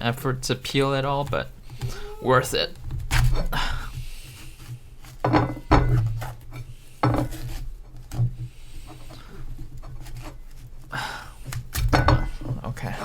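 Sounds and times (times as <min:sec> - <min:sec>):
knife scraping through fruit: 0:01.4 - 0:13.0.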